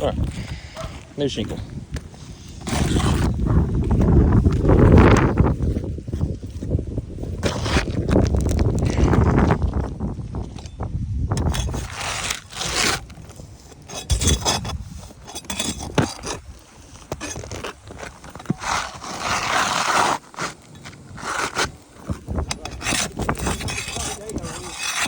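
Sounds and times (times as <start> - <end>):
shingle scraping on roof: 2.1 - 9.9, 11.4 - 25.0.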